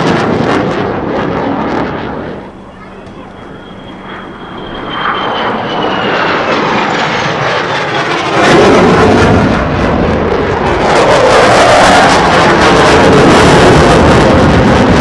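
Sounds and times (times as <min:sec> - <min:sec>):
jet flying past: 0:00.0 - 0:15.0.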